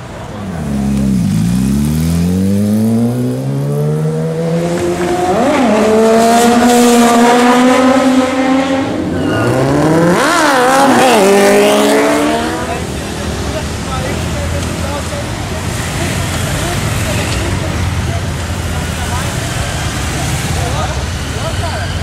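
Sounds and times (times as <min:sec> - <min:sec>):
motorcycle engines accelerating: 0:00.0 - 0:22.0.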